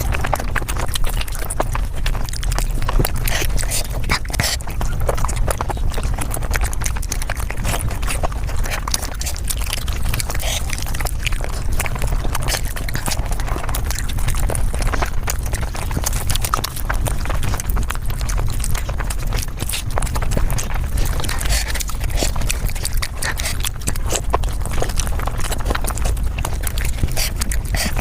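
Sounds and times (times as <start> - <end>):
sped-up chewing sounds: 0.0 - 28.0.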